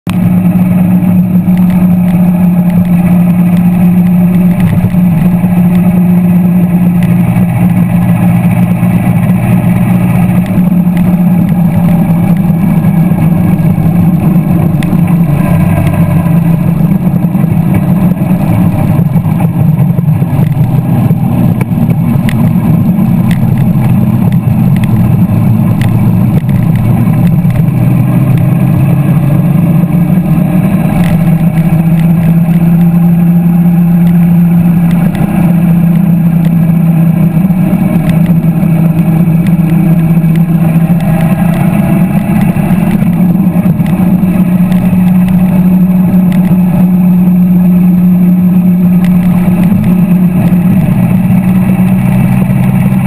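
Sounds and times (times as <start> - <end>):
car engine droning: 0.0 - 53.0
road noise: 0.0 - 53.0.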